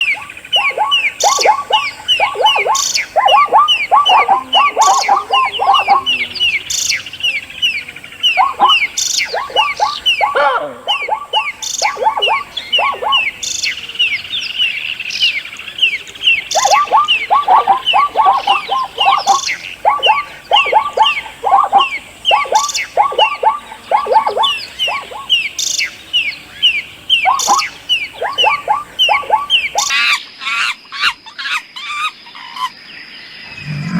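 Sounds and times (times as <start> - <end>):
birds chirping: 0.0 - 31.2
rapidly repeated bird calls: 0.0 - 32.8.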